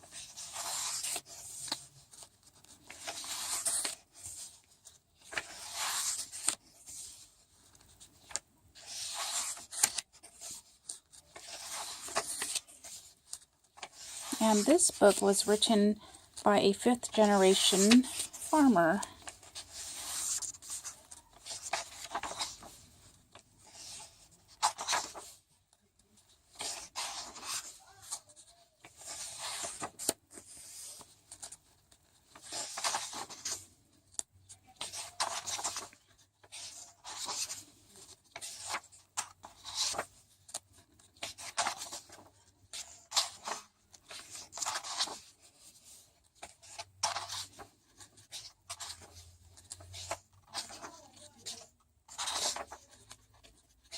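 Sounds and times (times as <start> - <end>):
paper pages turning: 0.0 - 53.9.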